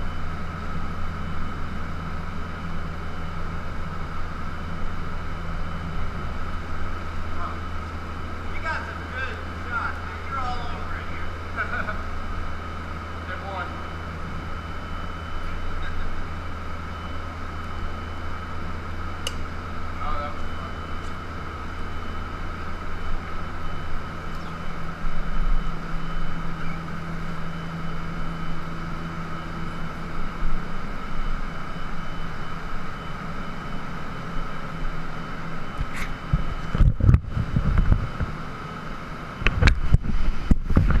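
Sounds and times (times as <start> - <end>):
mechanical hum: 0.0 - 41.0.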